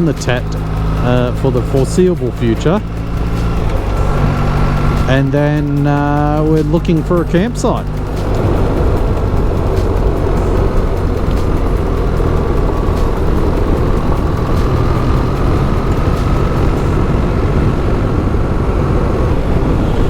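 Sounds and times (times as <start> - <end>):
low wind rush: 0.0 - 20.0
motorcycle engine running: 0.0 - 20.0.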